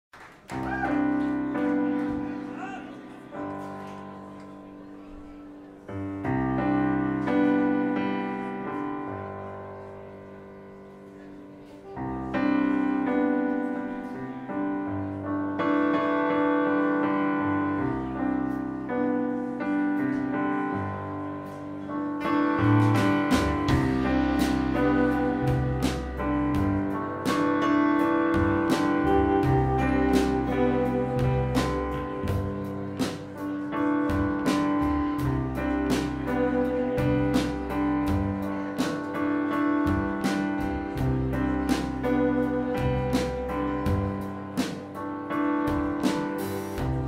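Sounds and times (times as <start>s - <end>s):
piano playing slow chords: 0.4s - 47.0s.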